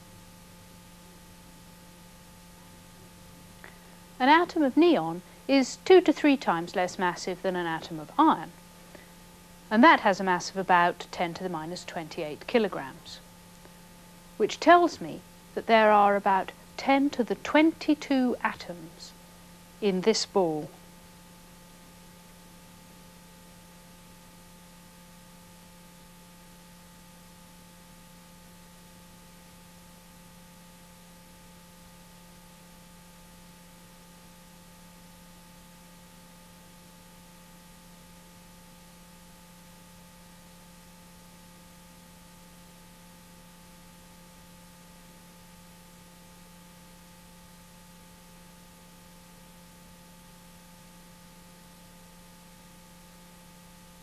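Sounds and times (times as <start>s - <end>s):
tape hiss: 0.0s - 54.0s.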